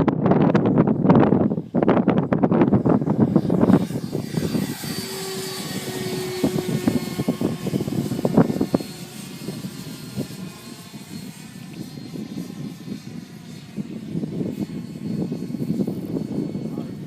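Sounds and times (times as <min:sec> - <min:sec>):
model jet fan whine: 0:00.0 - 0:17.0
wind buffeting microphone: 0:00.0 - 0:17.0.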